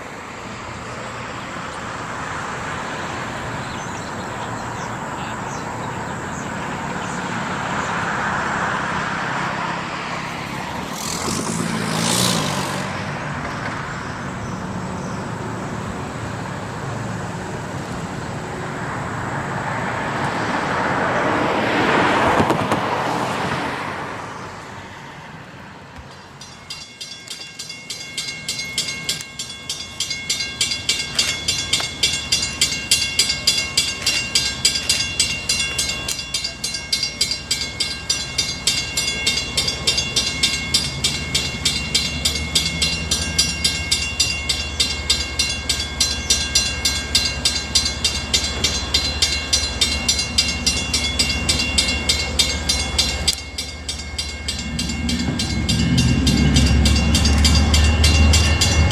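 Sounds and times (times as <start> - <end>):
railroad bell ringing: 0.0 - 22.3, 26.0 - 58.9
train rumble: 0.0 - 58.9.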